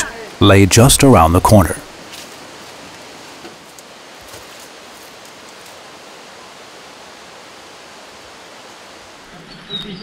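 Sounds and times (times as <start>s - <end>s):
outdoor hiss: 0.0s - 10.0s.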